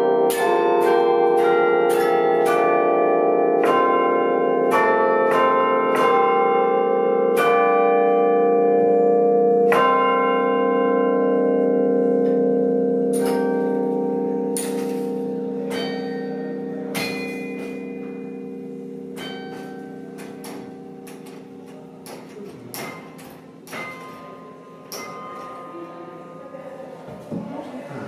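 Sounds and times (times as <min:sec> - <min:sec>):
bells ringing: 0:00.0 - 0:27.3.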